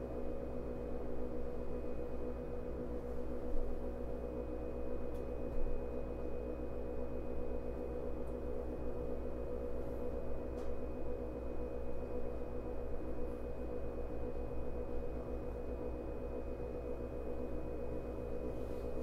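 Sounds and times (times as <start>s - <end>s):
electrical equipment humming: 0.0s - 19.0s.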